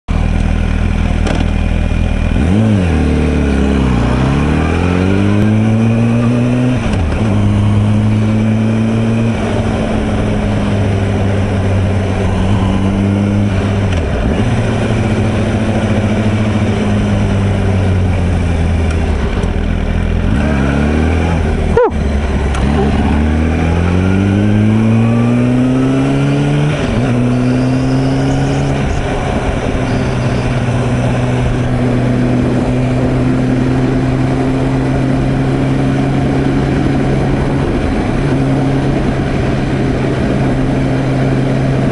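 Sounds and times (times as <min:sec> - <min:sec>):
motorcycle engine accelerating: 0:00.1 - 0:41.9
wind and road noise: 0:00.1 - 0:41.9.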